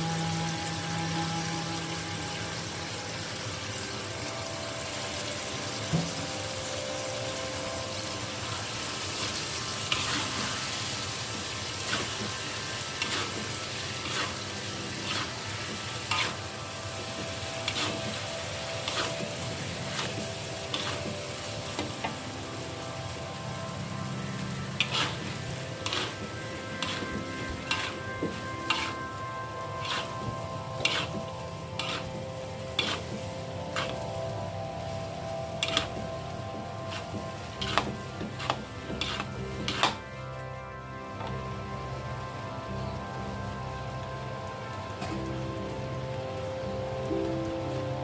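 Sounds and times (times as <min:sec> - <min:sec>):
food sizzling in a pan: 0:00.0 - 0:48.0.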